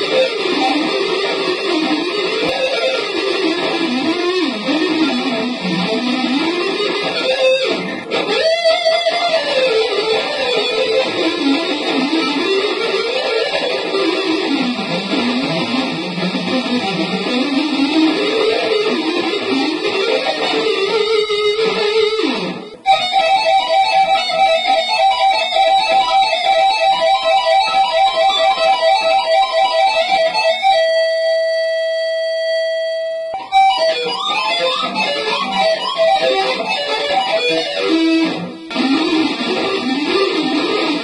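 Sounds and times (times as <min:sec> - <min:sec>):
distorted electric guitar: 0:00.0 - 0:41.0.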